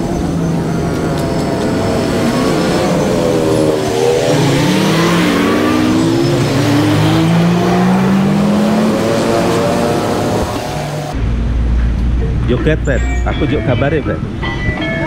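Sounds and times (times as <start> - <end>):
vehicles accelerating away: 0.0 - 13.2
tyre and engine noise: 0.0 - 15.0.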